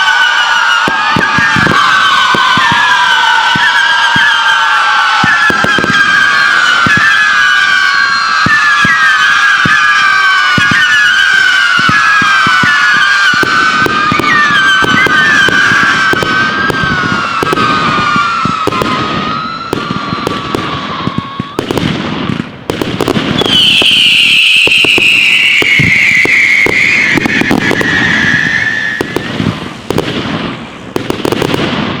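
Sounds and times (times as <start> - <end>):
falling firework whistle: 0.0 - 32.0
fireworks cracks and bangs: 0.0 - 32.0
shrill firework whistles: 0.0 - 32.0.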